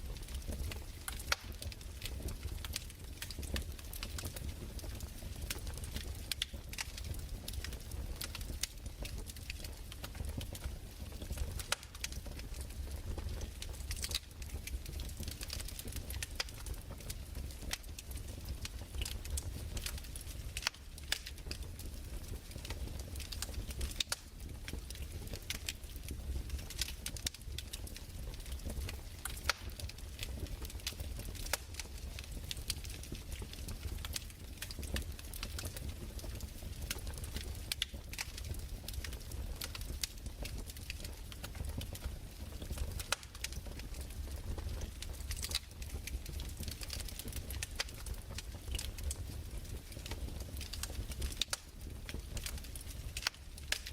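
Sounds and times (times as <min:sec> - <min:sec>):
low steady fire rumble: 0:00.0 - 0:53.9
burning wood popping and snapping: 0:00.1 - 0:53.9.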